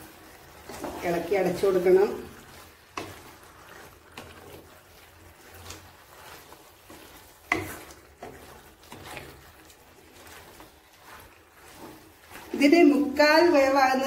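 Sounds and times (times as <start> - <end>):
spatula scraping frying pan: 0.0 - 14.0.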